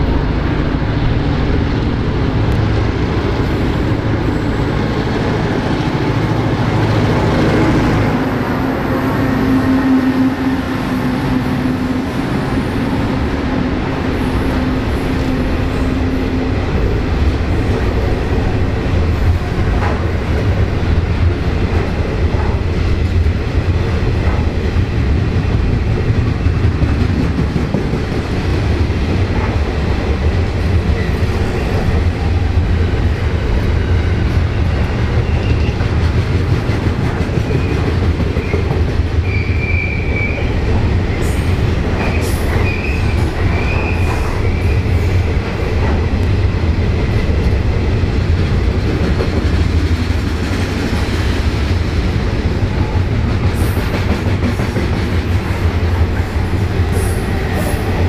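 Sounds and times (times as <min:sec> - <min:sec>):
diesel locomotive engine: 0:00.0 - 0:58.0.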